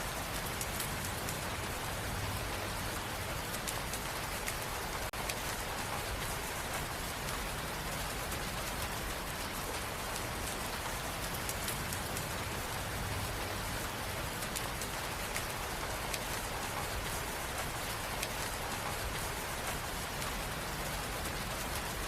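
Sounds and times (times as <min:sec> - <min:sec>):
steady rain hiss: 0:00.0 - 0:22.0
raindrop ticks: 0:00.1 - 0:22.0.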